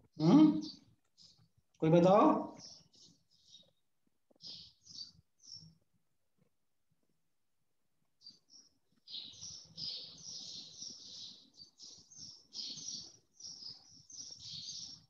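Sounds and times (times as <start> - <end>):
faint birds chirping: 0.0 - 6.5, 8.0 - 15.0.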